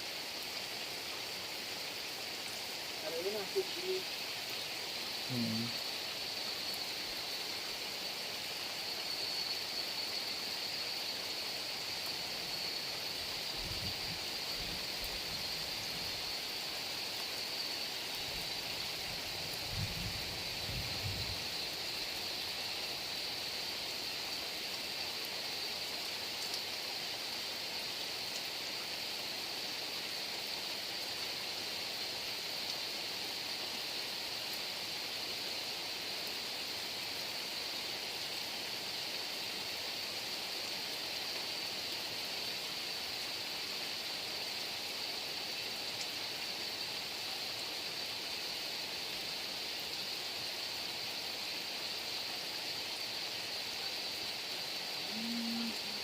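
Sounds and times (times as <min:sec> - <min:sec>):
heavy rain falling: 0:00.0 - 0:51.1.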